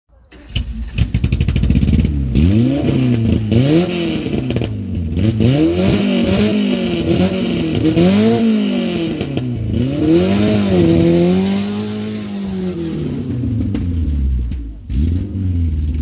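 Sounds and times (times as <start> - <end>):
car engine without exhaust: 0.1 - 16.0
exhaust crackling and popping: 0.3 - 16.0.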